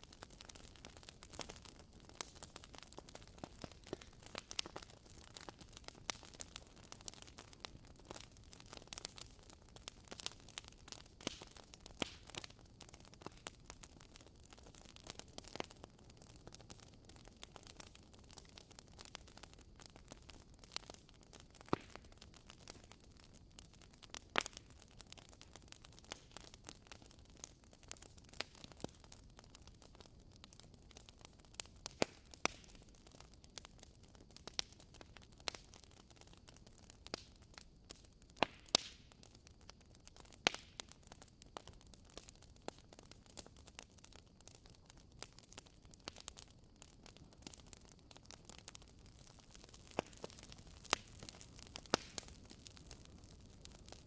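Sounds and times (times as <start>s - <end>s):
logs crackling and popping: 0.0s - 54.0s.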